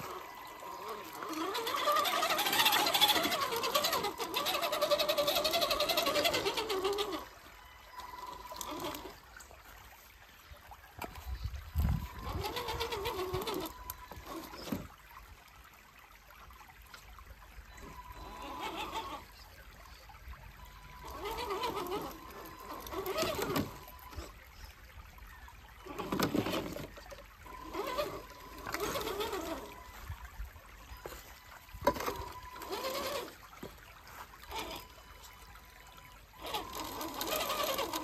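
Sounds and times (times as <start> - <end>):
electric motor whining: 0.0 - 9.5, 11.1 - 15.0, 17.7 - 19.7, 20.4 - 24.7, 25.6 - 38.0
creek trickling: 0.0 - 38.0.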